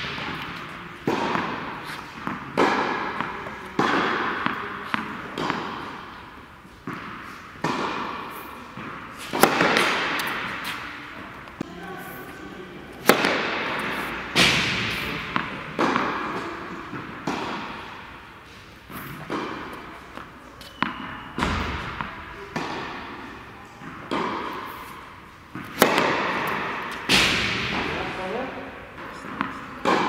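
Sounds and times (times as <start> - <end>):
racket striking ball: 0.0 - 11.6, 13.0 - 18.2, 18.8 - 28.0, 28.9 - 30.0
tennis ball bouncing: 0.0 - 11.7, 13.0 - 30.0.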